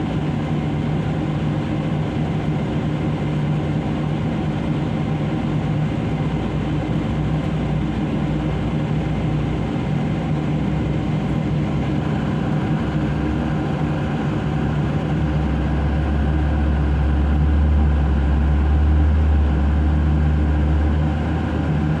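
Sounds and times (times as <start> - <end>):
deep engine rumble: 0.0 - 22.0
heavy diesel engines running: 0.0 - 22.0.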